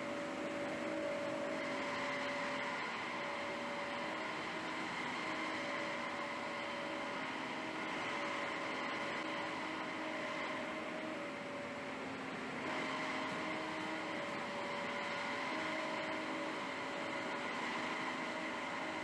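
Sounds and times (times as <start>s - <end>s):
machinery hum and whir: 0.0s - 19.0s.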